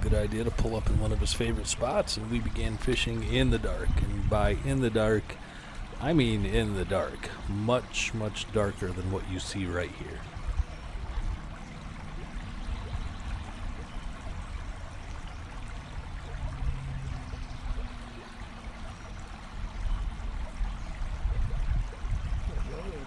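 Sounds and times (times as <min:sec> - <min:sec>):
water lapping against boat: 0:00.0 - 0:23.0.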